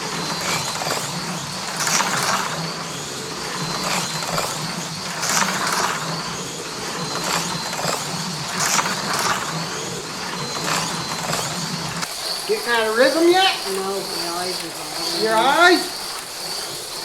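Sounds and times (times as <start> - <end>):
slot car motors whirring: 0.0 - 17.0
tyres rattling over track rails: 0.0 - 17.0.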